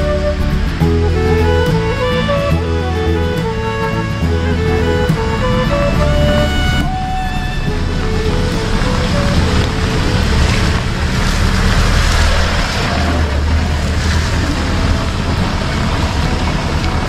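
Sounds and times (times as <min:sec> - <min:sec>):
continuous rushing noise: 0:00.0 - 0:17.0
vehicle engine low drone: 0:00.0 - 0:17.0.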